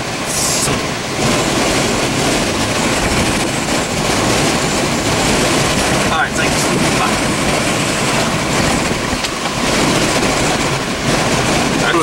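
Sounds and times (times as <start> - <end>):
tornado roar and wind: 0.0 - 12.0.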